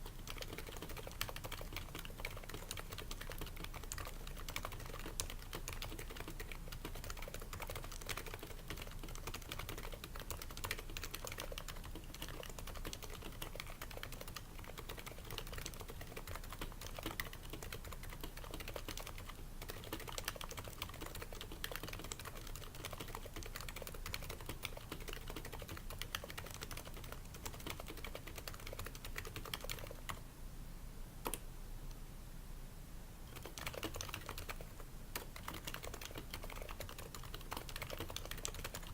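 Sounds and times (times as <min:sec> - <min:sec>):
keyboard typing: 0:00.0 - 0:30.2, 0:33.3 - 0:38.9.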